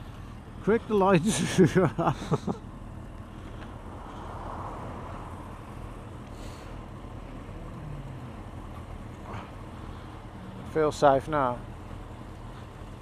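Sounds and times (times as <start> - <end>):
motorcycle engines idling: 0.0 - 13.0
road traffic noise: 0.0 - 13.0.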